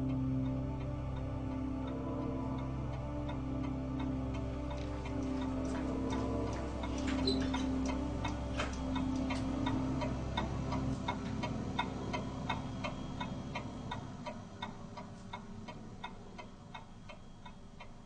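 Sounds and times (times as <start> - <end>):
low hum: 0.0 - 18.0
pendulum clock ticking: 0.0 - 18.0.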